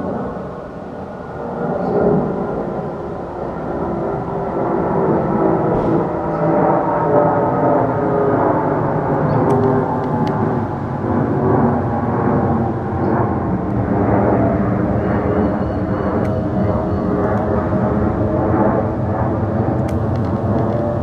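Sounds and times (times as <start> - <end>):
jet aircraft passing overhead: 0.0 - 21.0.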